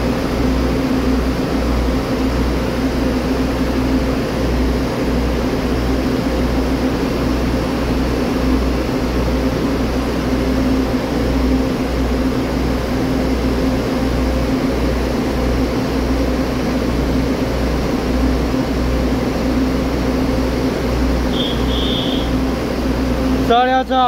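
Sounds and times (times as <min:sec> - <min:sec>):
idling train machine hum: 0:00.0 - 0:24.0.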